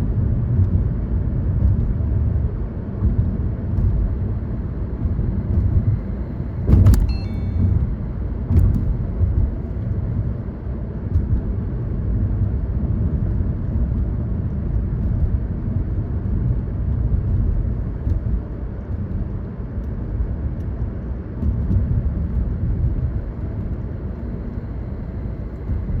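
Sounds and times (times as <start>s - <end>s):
car driving on road: 0.1s - 26.0s.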